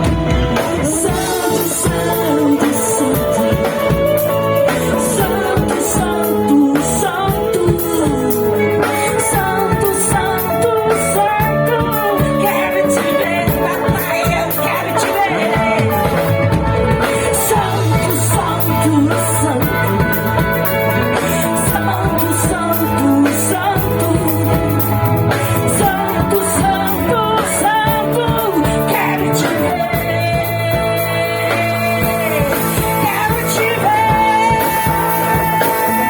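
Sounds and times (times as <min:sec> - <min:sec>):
person singing: 0:00.0 - 0:36.0
worship band playing: 0:00.0 - 0:36.0.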